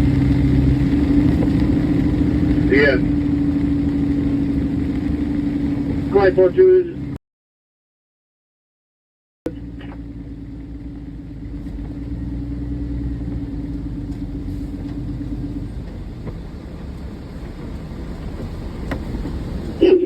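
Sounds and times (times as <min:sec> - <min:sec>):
vehicle rumble: 0:00.0 - 0:07.2, 0:09.5 - 0:20.0.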